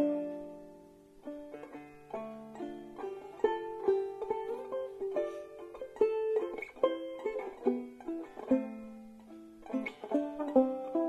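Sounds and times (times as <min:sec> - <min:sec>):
banjo plucked tune: 0:00.0 - 0:11.0.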